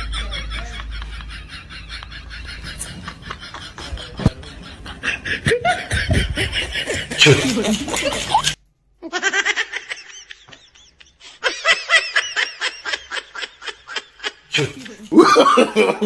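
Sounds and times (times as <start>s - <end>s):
laughter in quick bursts: 0.0s - 16.0s.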